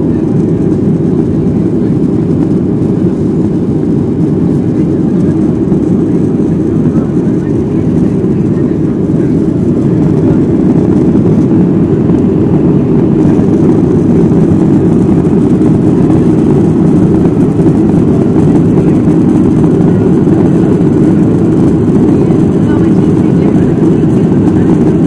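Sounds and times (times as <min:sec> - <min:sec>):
jet engine rumble in cabin: 0:00.0 - 0:25.0.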